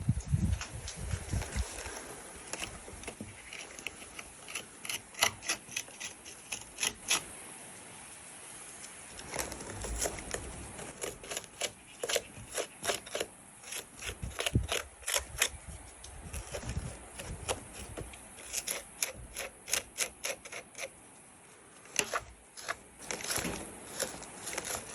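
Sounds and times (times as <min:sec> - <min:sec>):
light rubbing and scraping: 0:00.0 - 0:07.4, 0:08.8 - 0:24.9.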